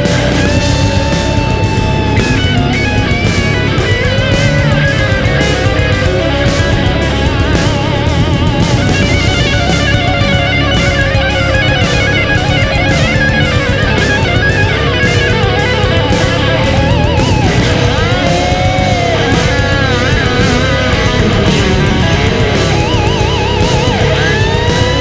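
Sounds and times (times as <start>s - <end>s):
distorted electric guitar: 0.0s - 25.0s
steady drum beat: 0.0s - 25.0s.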